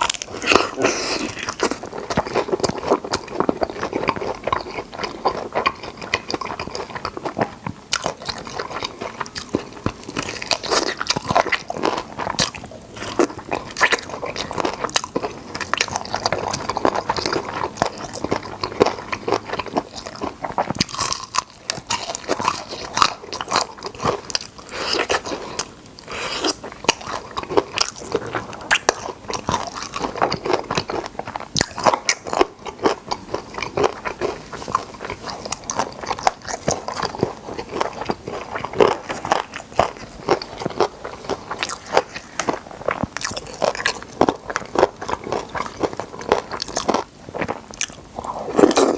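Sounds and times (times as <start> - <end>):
crunchy biting: 0.0 - 48.9
wet chewing: 0.0 - 48.9.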